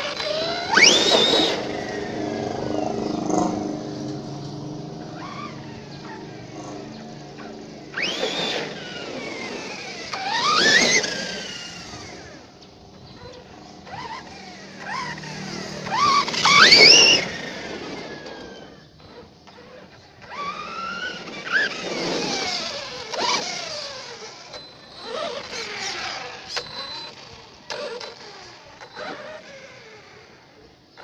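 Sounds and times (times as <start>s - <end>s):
tyres rustling on dirt: 0.0s - 30.9s
rc truck motor whine: 0.0s - 31.0s.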